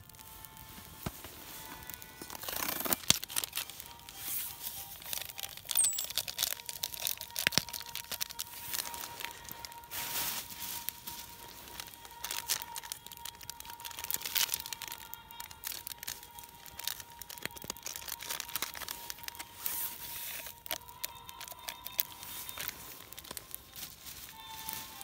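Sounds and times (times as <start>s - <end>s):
crackling and crinkling clicks: 0.0s - 25.0s
quiet background music: 0.0s - 25.0s.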